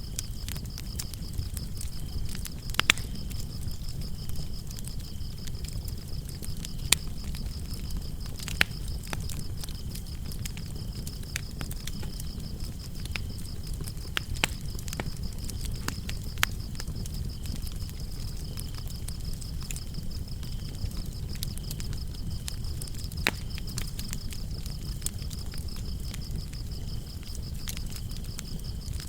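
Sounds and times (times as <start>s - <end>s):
crickets chirping: 0.0s - 29.0s
fire crackling and popping: 0.0s - 29.0s.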